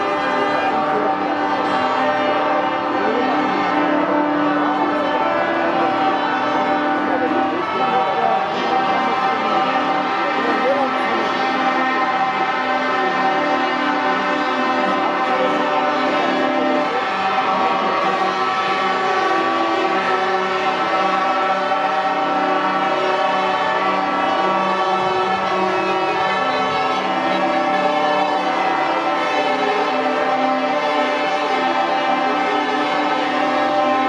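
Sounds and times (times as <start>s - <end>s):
music with long held chords: 0.0s - 34.0s.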